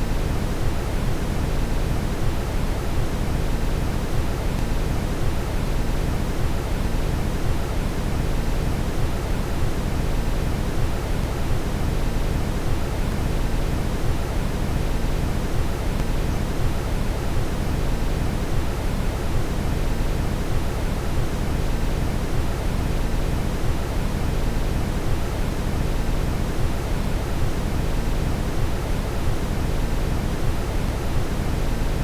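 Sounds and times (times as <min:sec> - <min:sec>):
deep brown noise hiss: 0:00.0 - 0:32.0.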